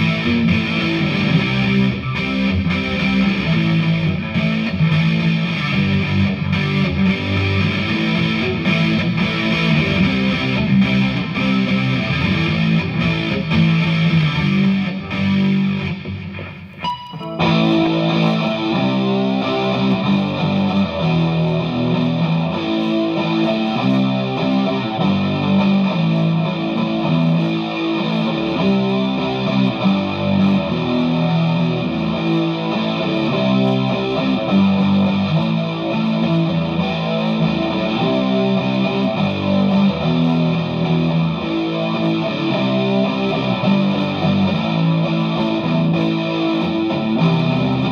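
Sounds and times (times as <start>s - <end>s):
distorted electric guitar riffing: 0.0s - 47.9s.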